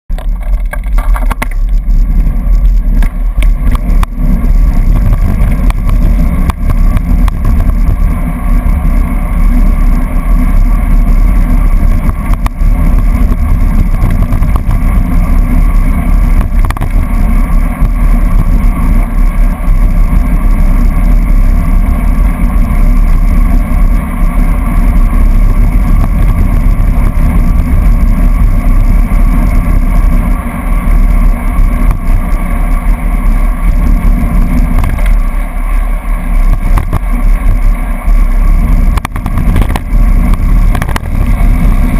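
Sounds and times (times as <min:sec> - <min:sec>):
wind buffeting microphone: 0:00.1 - 0:41.9.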